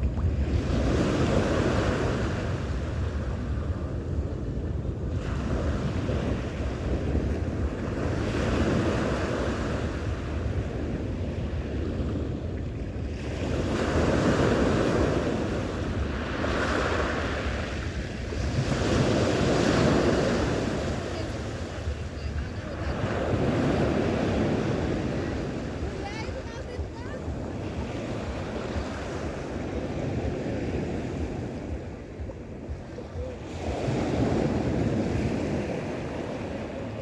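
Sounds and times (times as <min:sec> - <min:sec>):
sea waves breaking on shore: 0:00.0 - 0:37.0
wind buffeting microphone: 0:00.0 - 0:37.0.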